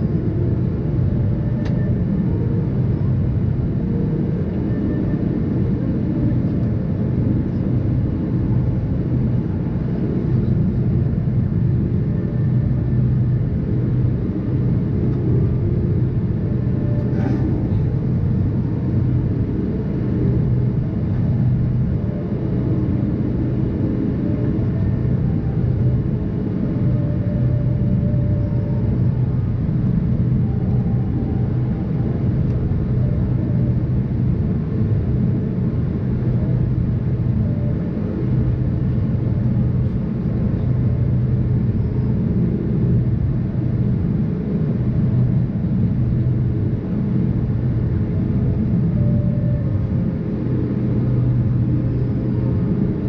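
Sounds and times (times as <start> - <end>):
jet airliner cabin drone: 0.0 - 53.0.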